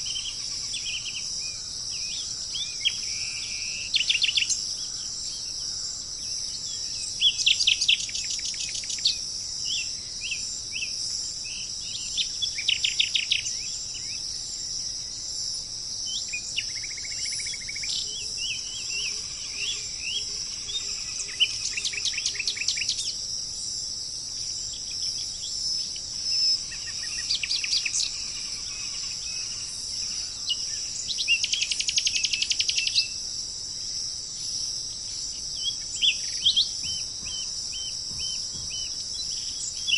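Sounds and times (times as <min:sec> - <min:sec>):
insects chorus: 0:00.0 - 0:39.9
songbirds trilling: 0:00.0 - 0:39.9.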